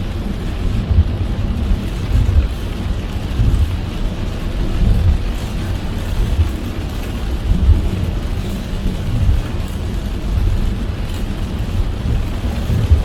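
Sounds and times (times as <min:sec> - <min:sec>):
rain hiss: 0:00.0 - 0:13.0
road and tyre rumble: 0:00.0 - 0:13.0.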